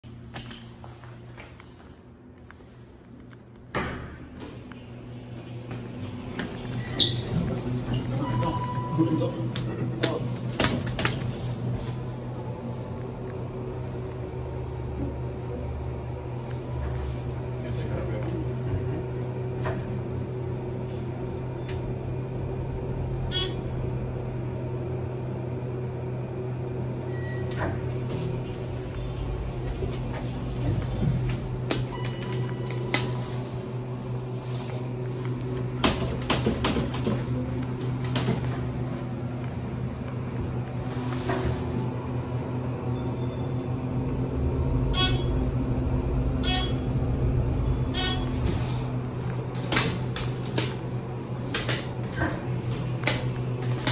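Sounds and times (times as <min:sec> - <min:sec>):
elevator low hum: 0:00.0 - 0:53.9.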